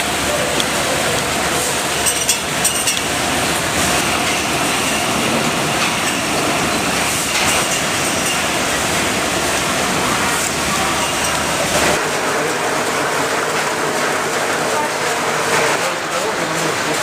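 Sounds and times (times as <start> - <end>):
conveyor line clattering: 0.0 - 17.0.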